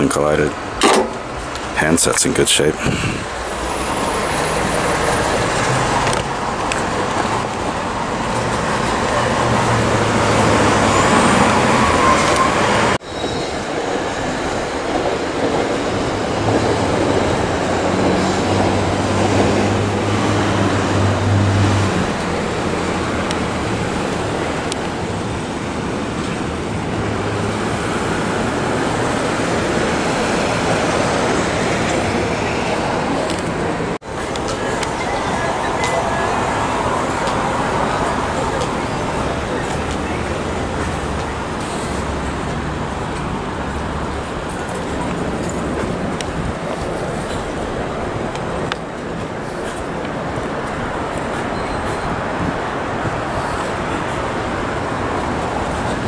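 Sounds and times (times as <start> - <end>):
passing cars and trucks: 0.0 - 56.0
road noise: 0.0 - 56.0.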